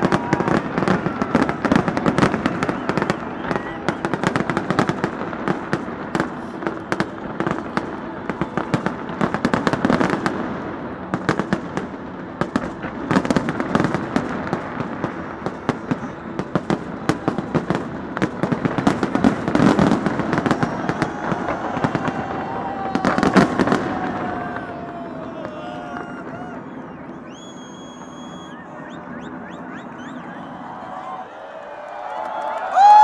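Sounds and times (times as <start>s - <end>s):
fireworks bangs and crackle: 0.0s - 31.3s.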